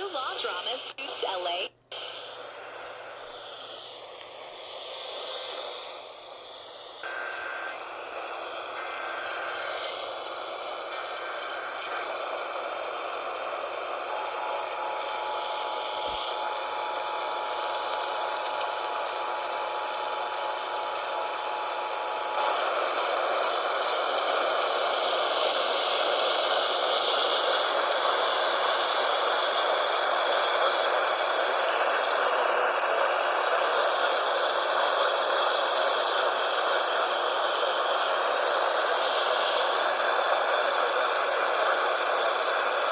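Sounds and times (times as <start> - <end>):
radio hiss and static: 0.0 - 42.9
faint steady whistling tones: 2.0 - 42.9.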